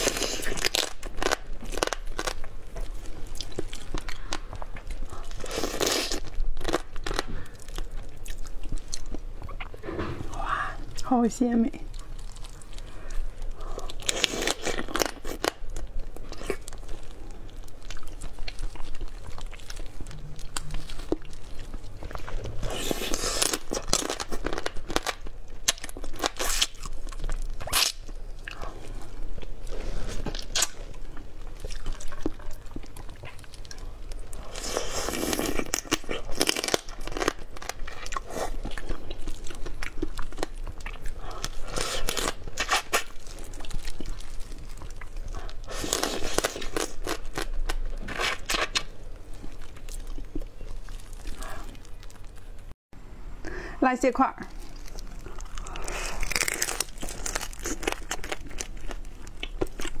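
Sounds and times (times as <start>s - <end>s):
person chewing with crunches: 0.0s - 11.1s, 11.9s - 52.8s, 54.4s - 60.0s.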